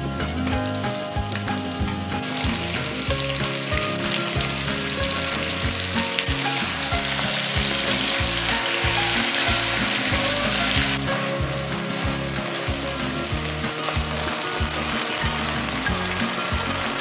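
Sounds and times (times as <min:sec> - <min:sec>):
background music: 0:00.0 - 0:17.0
food sizzling in a frying pan: 0:00.5 - 0:17.0.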